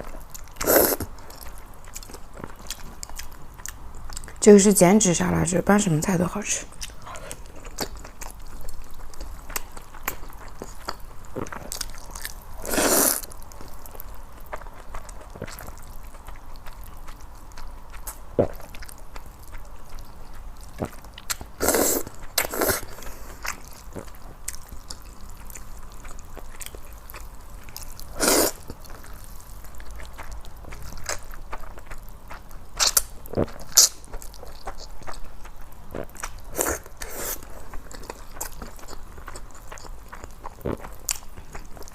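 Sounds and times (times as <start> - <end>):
chewing noodles: 0.0 - 4.4, 6.7 - 41.9.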